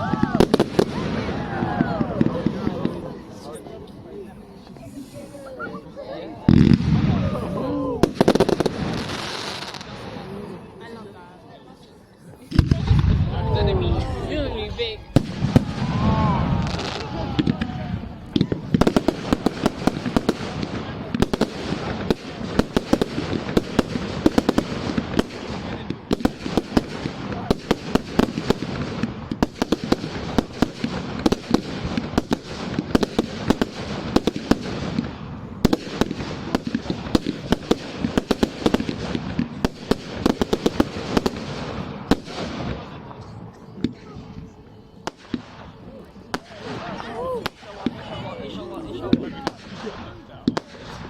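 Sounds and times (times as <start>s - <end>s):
fireworks bangs and crackles: 0.0s - 11.3s, 12.2s - 51.0s.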